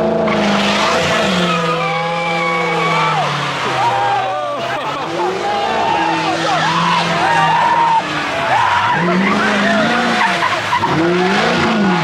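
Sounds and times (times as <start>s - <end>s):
car engine revving: 0.0s - 12.0s
tires squealing on pavement: 0.0s - 12.0s.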